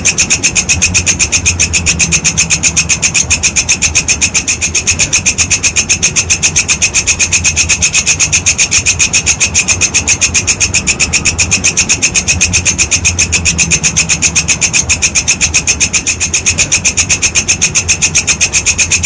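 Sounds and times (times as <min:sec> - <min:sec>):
grasshopper stridulating: 0:00.0 - 0:19.0
low hum: 0:00.0 - 0:19.0.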